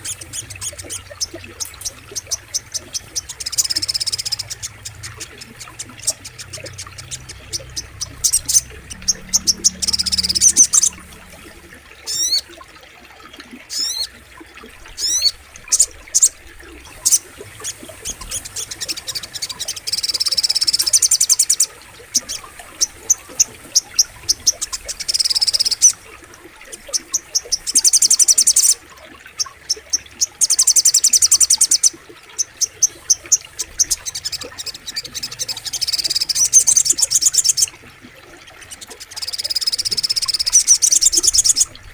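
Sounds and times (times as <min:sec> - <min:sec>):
bird song with ticking trills: 0:00.0 - 0:41.9.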